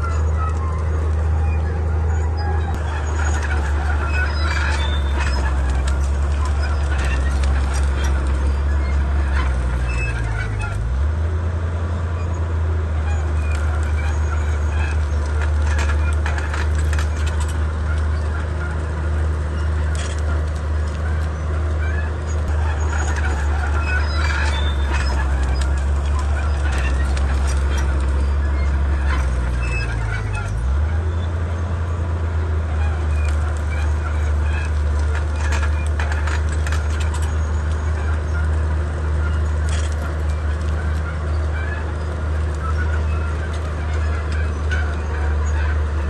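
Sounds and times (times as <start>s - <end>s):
clicks and squeaks: 0.0s - 11.1s, 12.2s - 46.0s
bulldozer diesel engine running: 0.0s - 46.0s.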